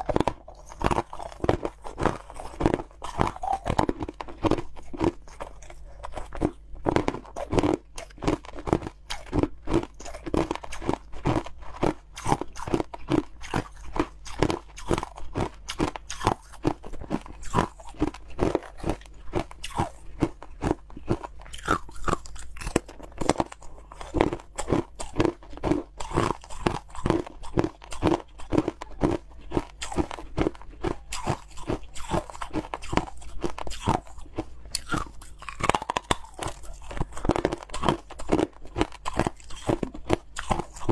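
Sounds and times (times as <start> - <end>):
person chewing crunchy ice: 0.0 - 40.9.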